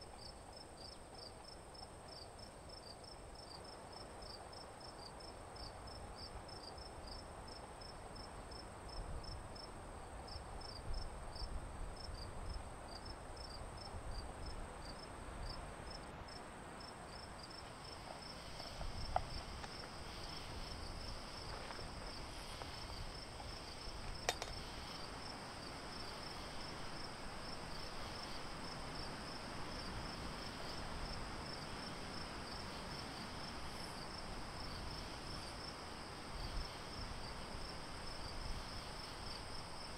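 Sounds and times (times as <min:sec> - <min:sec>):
constant high insect note: 0:00.0 - 0:39.9
crickets chirping: 0:00.0 - 0:39.9.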